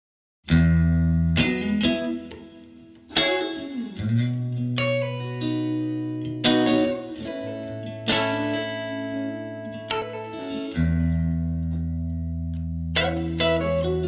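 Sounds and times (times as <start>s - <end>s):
ringing electric guitar chords: 0.5s - 14.0s.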